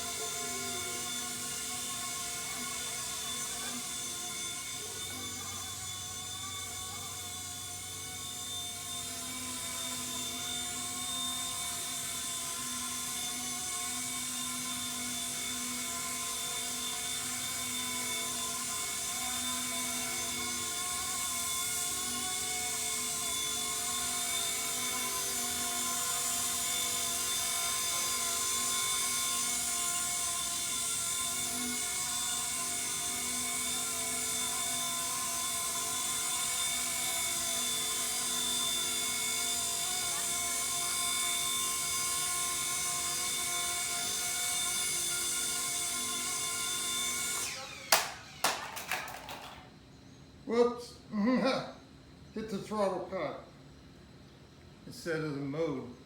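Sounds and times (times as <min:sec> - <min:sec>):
rc helicopter motor whine: 0:00.0 - 0:49.7.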